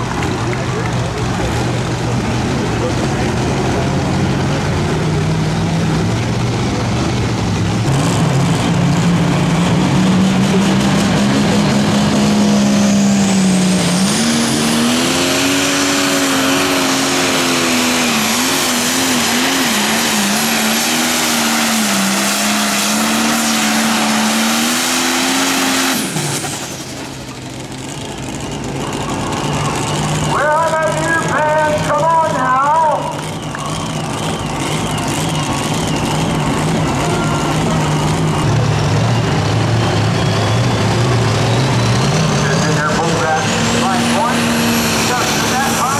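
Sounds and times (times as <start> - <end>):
tractor diesel engine at full throttle: 0.0 - 45.9.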